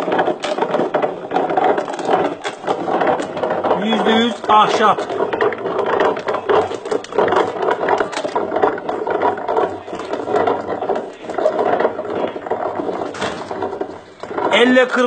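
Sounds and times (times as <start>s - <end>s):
wooden machine clattering: 0.0s - 15.0s.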